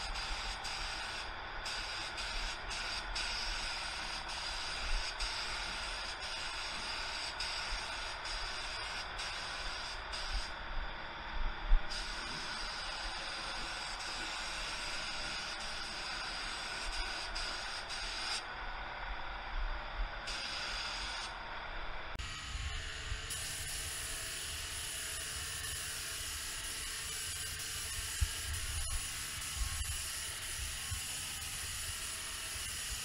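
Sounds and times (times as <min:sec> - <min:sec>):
spray gun hissing: 0:00.0 - 0:10.5, 0:11.9 - 0:18.4, 0:20.3 - 0:21.3, 0:23.2 - 0:33.0.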